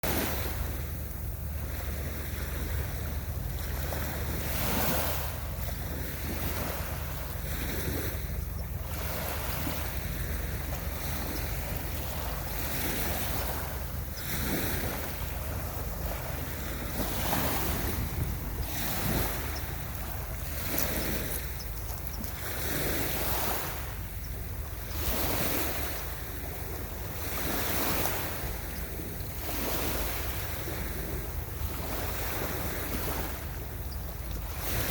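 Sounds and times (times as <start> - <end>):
ocean waves on a beach: 0.0 - 34.9
wind rumbling on microphone: 0.0 - 34.9.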